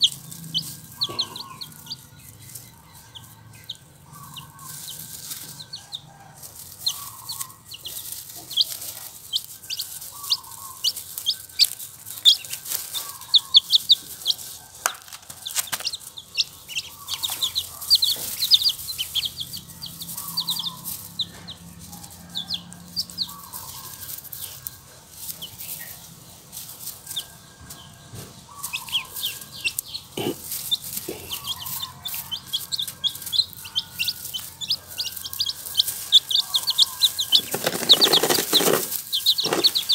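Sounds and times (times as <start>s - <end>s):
chicks and ducklings peeping: 0.0s - 39.9s.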